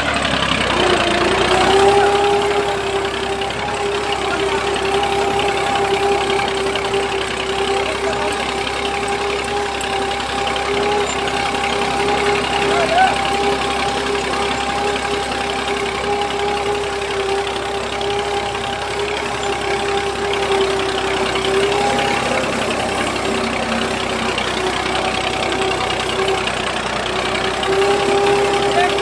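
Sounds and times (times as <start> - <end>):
toy vehicle electric motor whine: 0.0 - 29.0.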